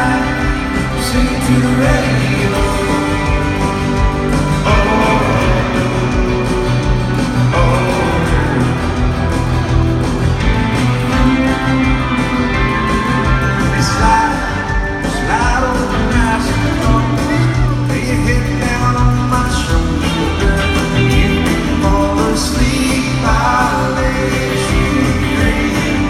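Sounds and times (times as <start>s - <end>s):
man singing lead vocal: 0.0s - 9.4s, 13.6s - 26.0s
country band playing live: 0.0s - 26.0s.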